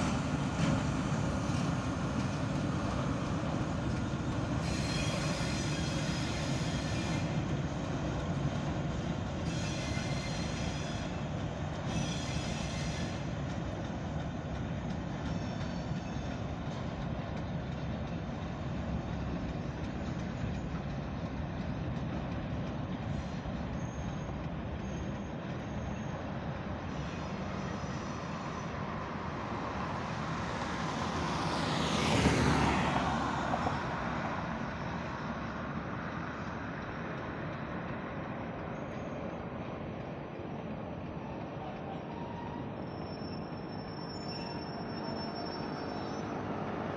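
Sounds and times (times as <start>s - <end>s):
freight train rumbling: 0.0s - 46.9s
squealing train wheels: 0.0s - 46.9s.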